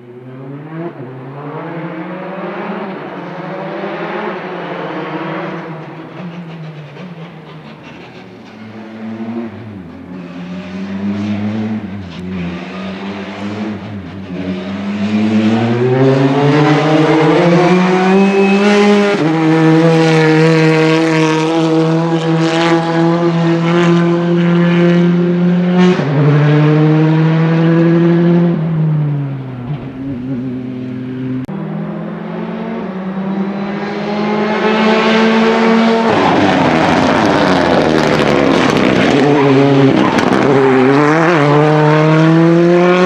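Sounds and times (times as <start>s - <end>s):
rally car engine accelerating: 0.0s - 43.0s.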